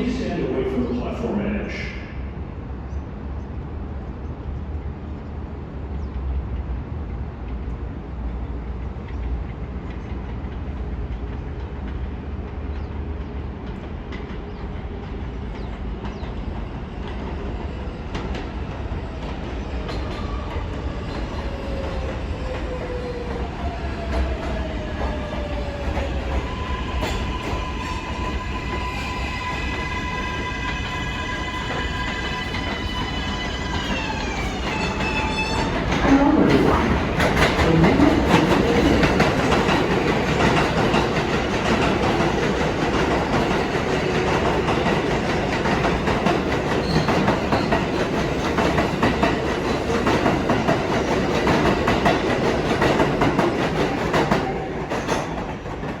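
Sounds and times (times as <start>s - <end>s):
subway train rumble and clatter: 0.0s - 56.0s.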